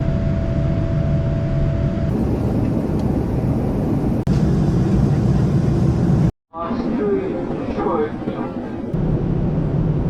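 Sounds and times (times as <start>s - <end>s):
jet airliner roar: 0.0s - 10.0s.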